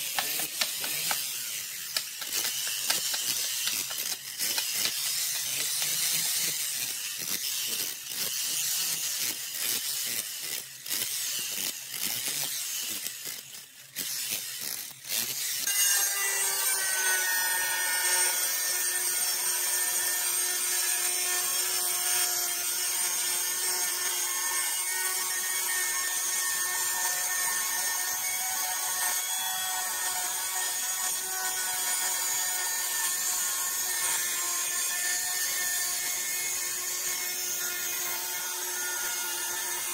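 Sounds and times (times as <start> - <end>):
angle grinder cutting tile: 0.0 - 39.9.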